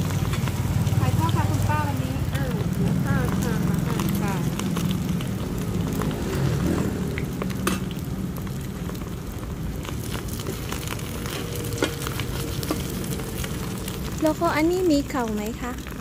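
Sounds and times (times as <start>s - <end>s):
omelette sizzling in oil: 0.0s - 16.0s.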